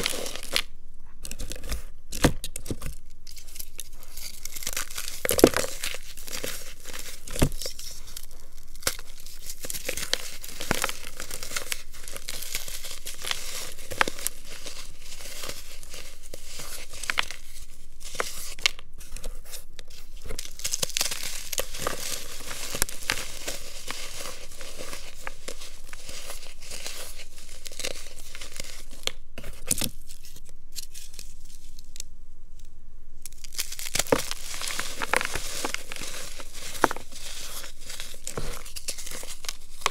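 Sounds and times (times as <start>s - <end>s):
hands crushing chalky blocks: 0.0s - 32.1s, 33.2s - 39.9s.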